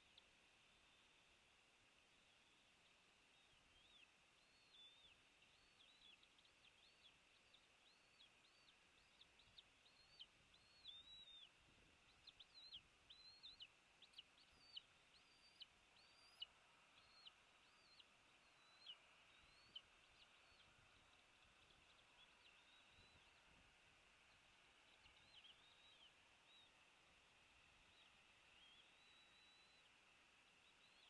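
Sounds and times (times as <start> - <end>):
background hiss: 0.0 - 31.0
bird chirping: 2.0 - 31.0.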